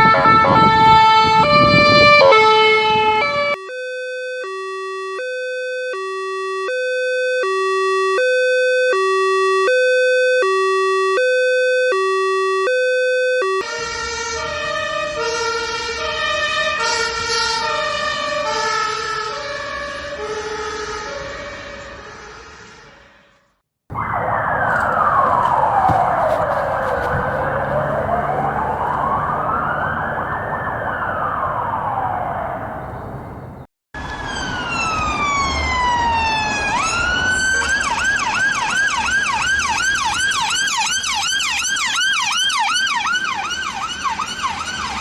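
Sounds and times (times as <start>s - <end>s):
siren yelp: 0.0s - 21.6s, 23.9s - 45.0s
ambulance siren wailing: 0.0s - 22.2s, 23.9s - 45.0s.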